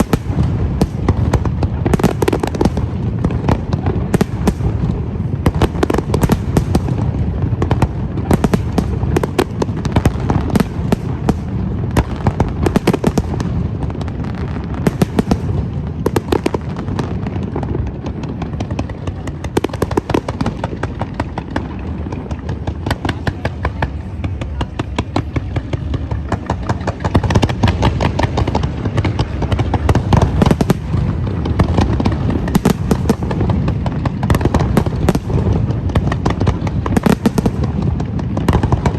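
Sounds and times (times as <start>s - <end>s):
fireworks crackling and booming: 0.0s - 38.9s.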